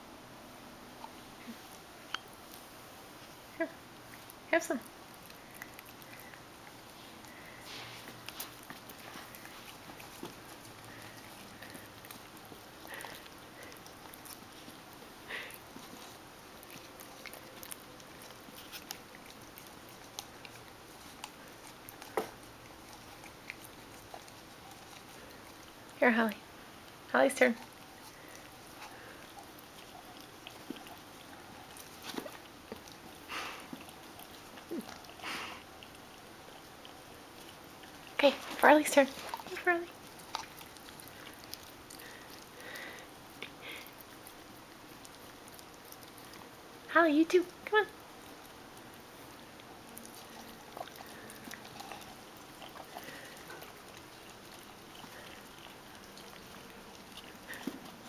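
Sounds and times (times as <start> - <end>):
dog licking: 2.4 - 58.0.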